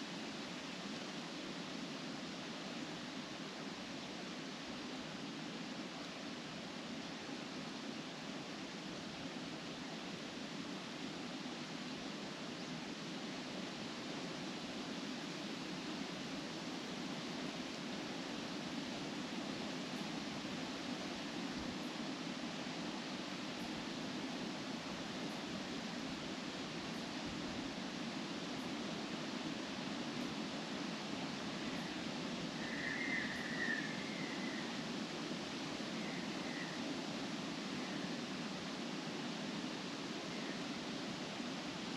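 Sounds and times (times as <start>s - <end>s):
wind rustling tree leaves: 0.0s - 41.9s.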